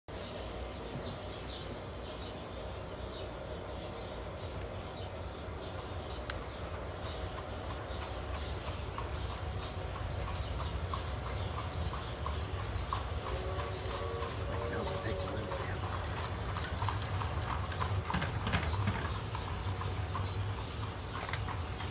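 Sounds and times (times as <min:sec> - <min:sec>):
insects chirping: 0:00.1 - 0:21.9
horse hooves clip-clop: 0:03.2 - 0:21.9.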